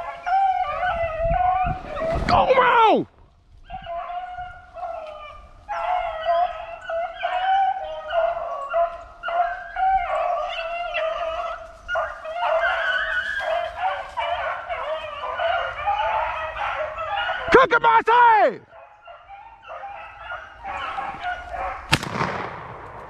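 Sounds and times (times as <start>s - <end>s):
hounds baying: 0.0s - 22.5s.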